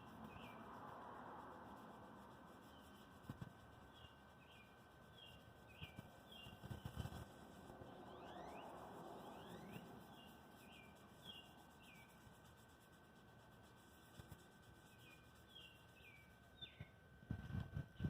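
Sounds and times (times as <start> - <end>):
faint bird chirps: 0.0 - 1.0, 1.7 - 18.0.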